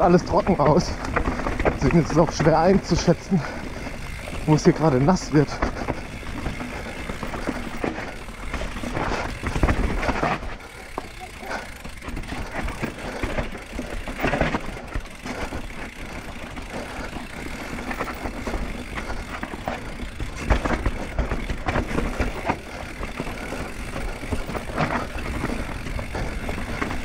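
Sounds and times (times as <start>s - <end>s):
bike chain and frame rattling: 0.0s - 27.0s
bike tyres crunching over rock: 0.0s - 27.0s.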